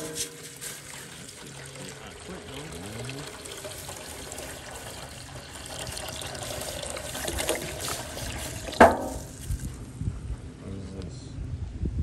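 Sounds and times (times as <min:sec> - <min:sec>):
water pouring into a metal pan: 0:00.0 - 0:09.7.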